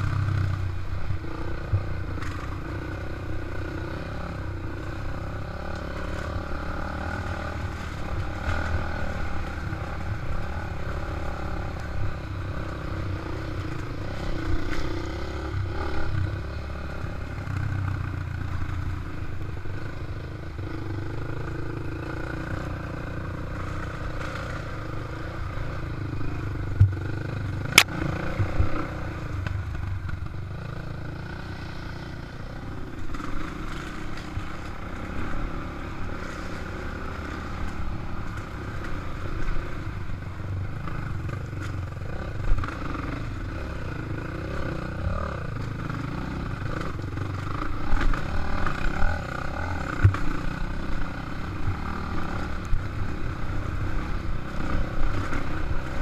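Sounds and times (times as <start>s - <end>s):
dirt bike engine: 0.0s - 56.0s.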